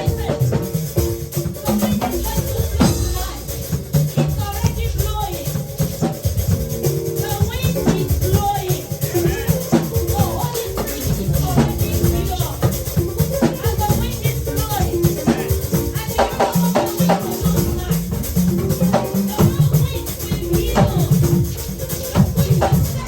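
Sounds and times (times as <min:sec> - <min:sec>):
drum kit beat: 0:00.0 - 0:23.0
shaker rattling: 0:00.0 - 0:23.0.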